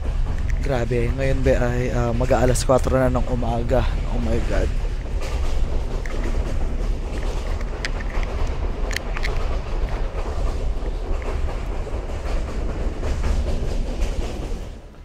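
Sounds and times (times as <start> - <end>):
train low rumble: 0.0 - 15.0
wheels clacking over rails: 0.0 - 15.0
sharp metallic clicks: 0.2 - 14.6.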